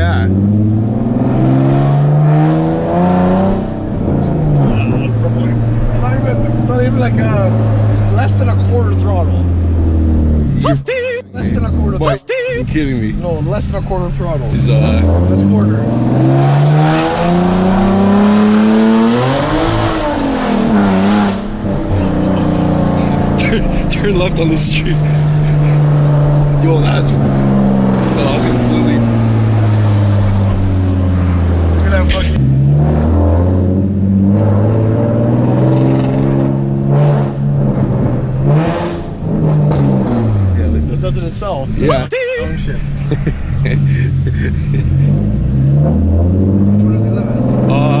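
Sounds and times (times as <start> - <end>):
loud car exhaust revving: 0.0 - 10.9, 12.6 - 48.0.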